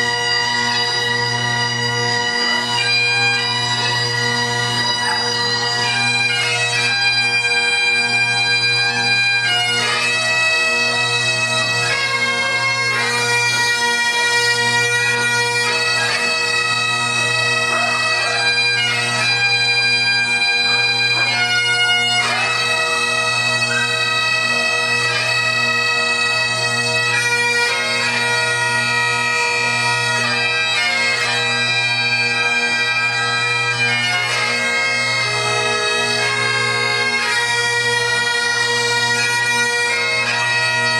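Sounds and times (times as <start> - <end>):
bagpipes playing a melody: 0.0 - 40.9.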